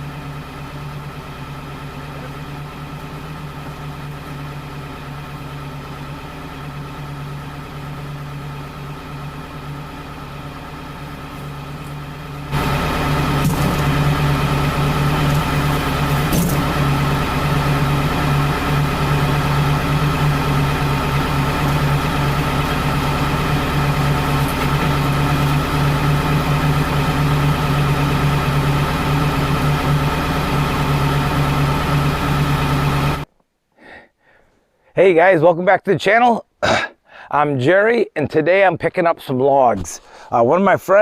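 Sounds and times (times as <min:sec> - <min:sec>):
engine humming steadily: 0:00.0 - 0:33.4, 0:39.6 - 0:41.0.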